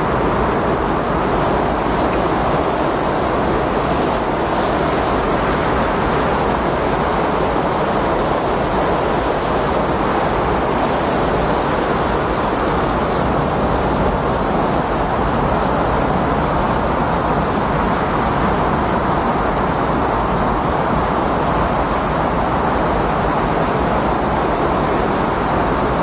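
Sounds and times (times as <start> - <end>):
loud rushing wind: 0.0 - 26.0.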